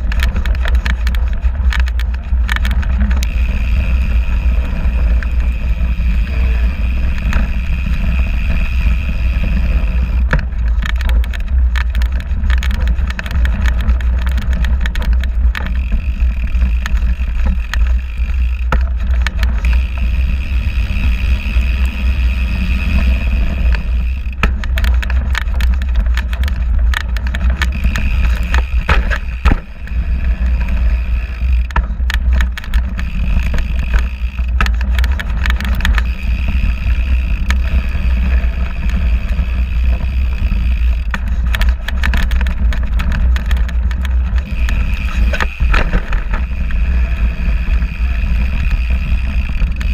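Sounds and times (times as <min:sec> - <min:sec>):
bike knocks and rattles: 0:00.0 - 0:49.9
bike tyre rumbling on dirt: 0:00.0 - 0:49.9.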